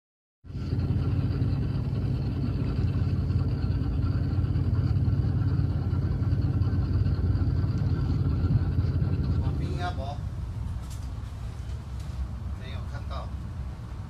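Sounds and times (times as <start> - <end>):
boat engine droning: 0.5 - 14.0.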